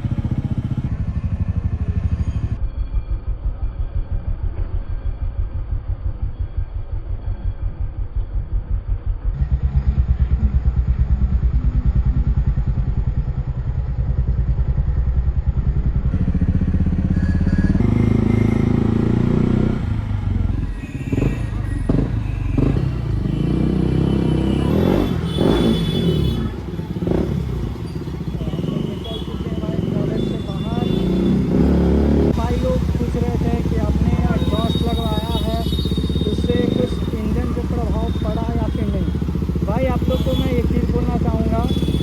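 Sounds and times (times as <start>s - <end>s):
motorcycle engine pulsing: 0.0s - 42.0s.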